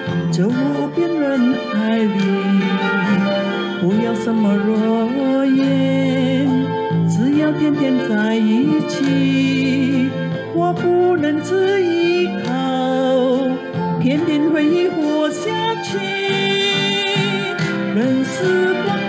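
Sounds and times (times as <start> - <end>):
song with sung melody: 0.0 - 19.0.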